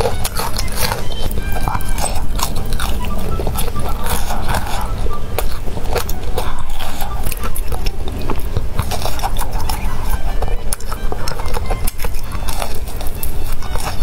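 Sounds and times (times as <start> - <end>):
chewing noodles: 0.0 - 14.0
wet mouth clicks: 0.0 - 14.0.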